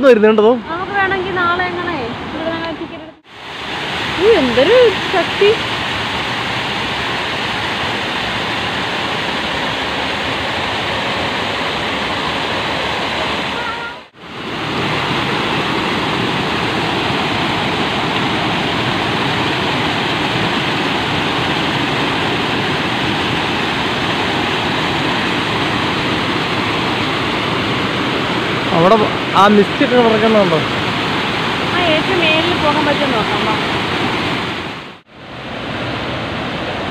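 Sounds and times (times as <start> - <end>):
waterfall rushing: 0.6 - 36.9.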